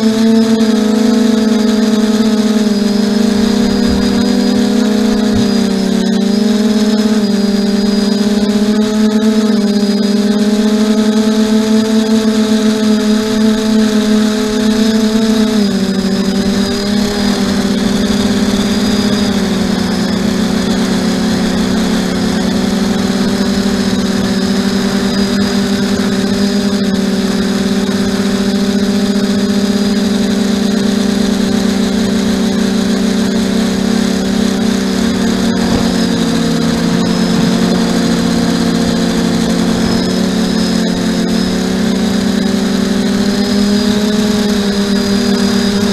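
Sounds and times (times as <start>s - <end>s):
drone motors and propellers: 0.0s - 45.9s.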